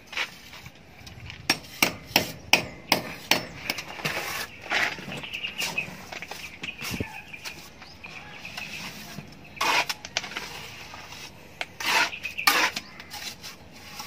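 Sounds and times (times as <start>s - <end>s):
trowel scraping mortar on wall: 0.0s - 0.8s, 1.4s - 14.0s.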